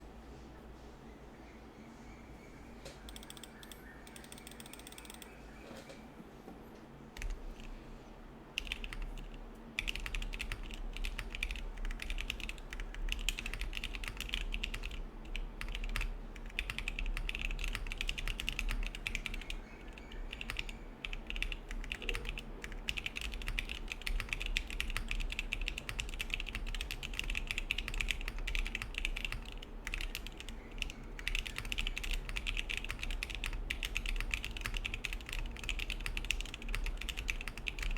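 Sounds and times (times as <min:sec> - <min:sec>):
mechanical keyboard typing: 0:03.1 - 0:05.4, 0:07.2 - 0:07.7, 0:08.6 - 0:37.9.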